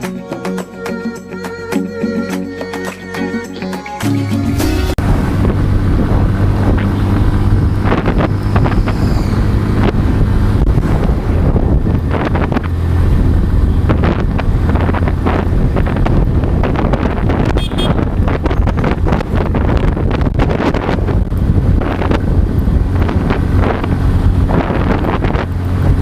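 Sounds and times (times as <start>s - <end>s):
motorcycle engine running: 5.0s - 26.0s
wind buffeting microphone: 5.0s - 26.0s.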